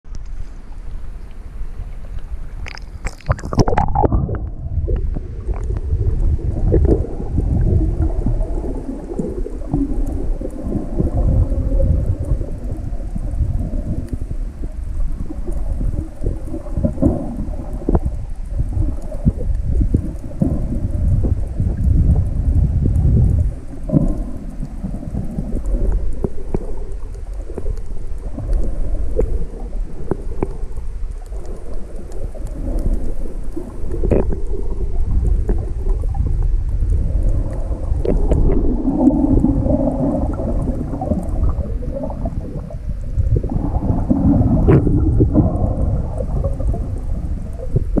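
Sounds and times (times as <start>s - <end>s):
muffled underwater rumble and sloshing: 0.1s - 48.0s.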